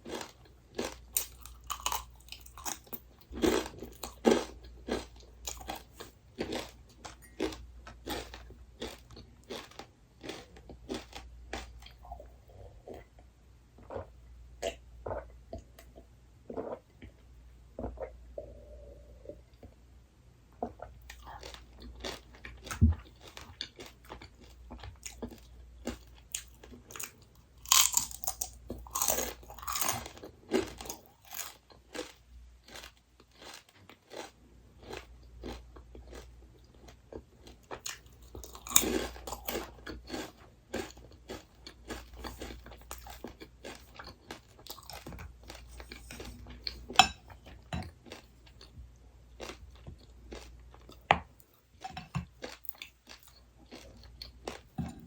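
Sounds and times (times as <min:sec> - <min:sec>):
person chewing crunchy snack: 0:00.0 - 0:13.0, 0:20.6 - 0:48.7, 0:49.3 - 0:55.0.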